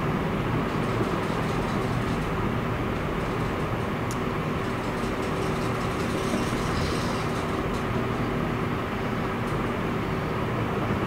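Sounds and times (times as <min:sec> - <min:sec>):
machine hum: 0:00.0 - 0:11.0
rushing background noise: 0:00.0 - 0:11.0.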